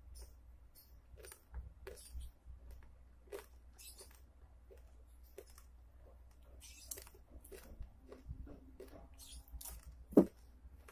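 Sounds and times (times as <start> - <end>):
person chewing food: 1.1 - 10.9.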